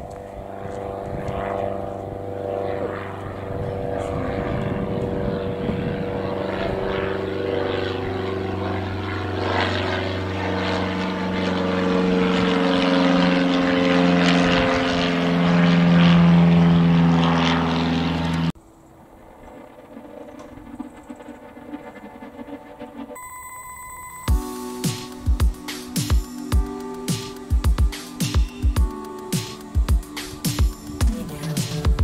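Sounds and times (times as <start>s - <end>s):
propeller aircraft engines droning: 0.0s - 32.0s.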